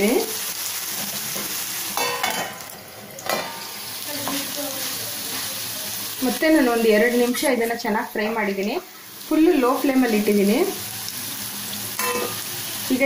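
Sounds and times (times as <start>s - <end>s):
banana slices sizzling in oil: 0.0s - 13.0s.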